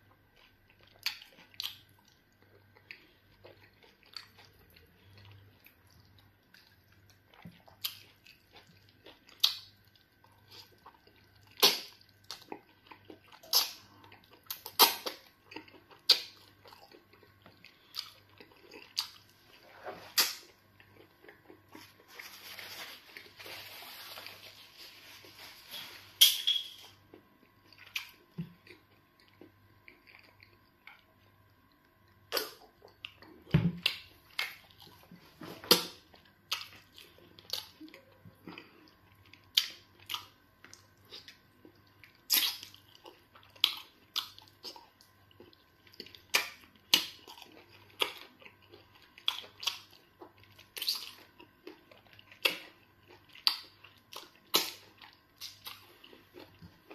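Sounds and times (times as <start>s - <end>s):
chewing and wet mouth smacks: 0.4s - 22.0s, 27.1s - 35.1s, 35.7s - 56.9s.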